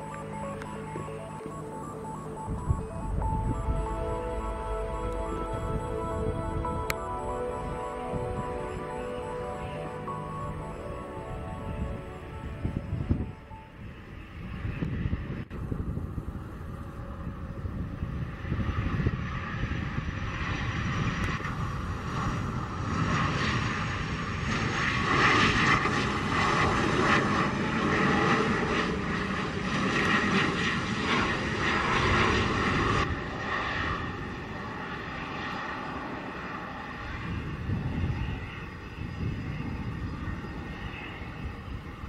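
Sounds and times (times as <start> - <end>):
jet engine roar with high whine: 0.0 - 42.0.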